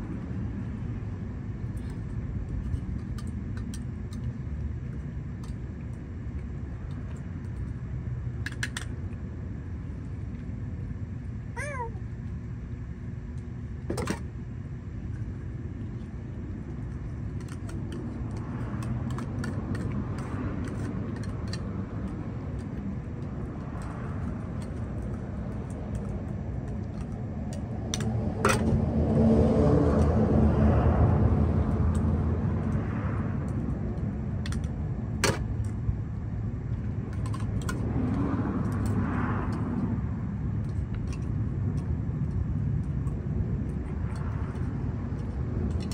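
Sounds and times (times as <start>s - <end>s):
road traffic rumble: 0.0s - 45.9s.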